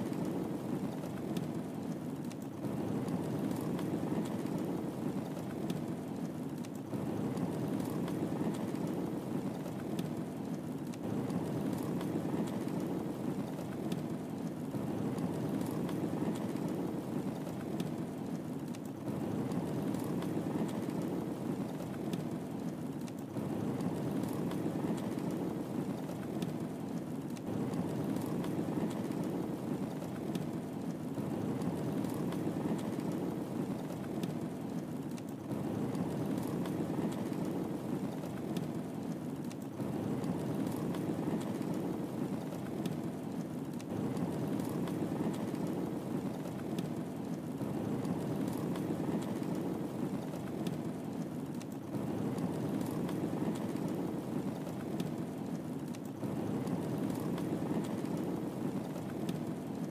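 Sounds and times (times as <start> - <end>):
fire crackles and pops: 0.0 - 59.9
low rush of flames: 0.0 - 59.9.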